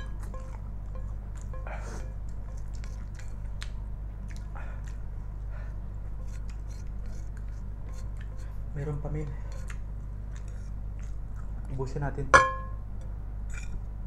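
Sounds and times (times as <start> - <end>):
wet chewing mouth sounds: 0.0 - 11.8
steady low hum: 0.0 - 14.0.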